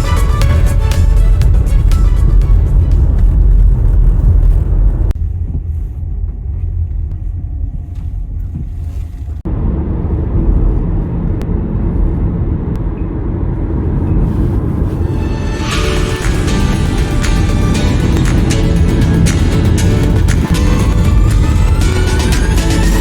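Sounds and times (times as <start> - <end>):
car driving rumble: 0.0 - 23.0.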